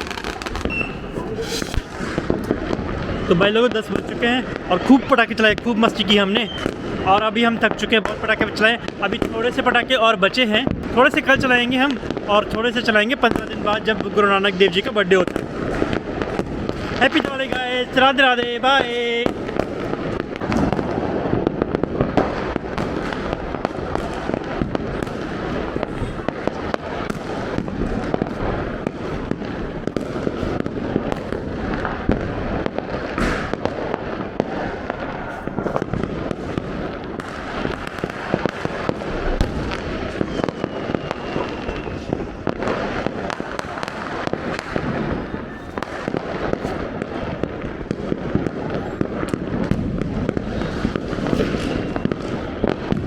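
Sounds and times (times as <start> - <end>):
firecrackers crackling and banging: 0.0 - 53.0.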